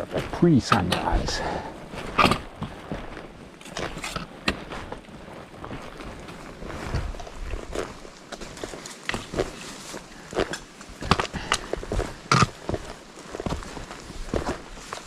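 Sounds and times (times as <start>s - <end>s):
footsteps on trail: 0.0s - 15.0s.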